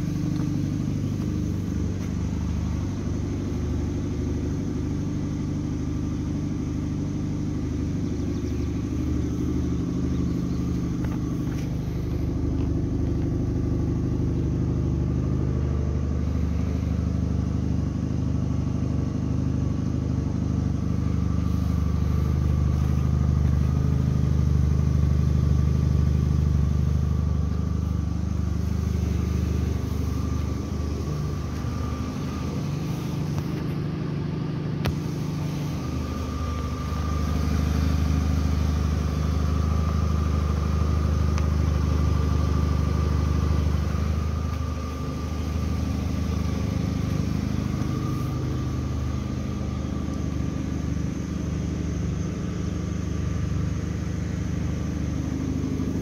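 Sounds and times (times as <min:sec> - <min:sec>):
car engine running: 0:00.0 - 0:56.0
road noise: 0:00.0 - 0:56.0.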